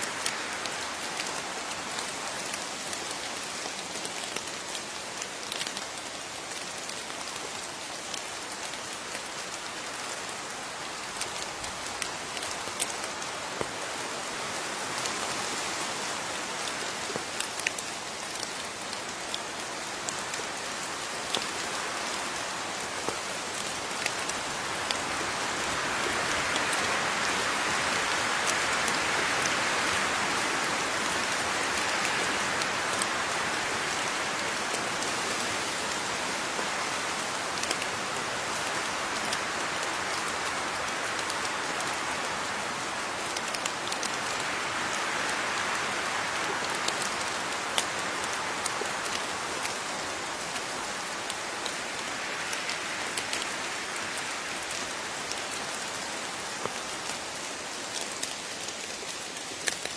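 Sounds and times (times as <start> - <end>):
rain falling: 0.0 - 59.9
raindrops tapping surfaces: 0.0 - 59.9.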